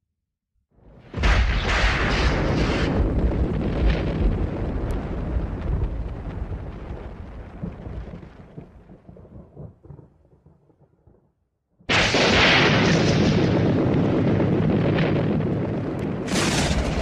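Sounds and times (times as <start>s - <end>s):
loud thunderclap: 1.1s - 10.9s, 11.9s - 17.0s
low thunder rumble: 1.1s - 11.2s, 11.9s - 17.0s.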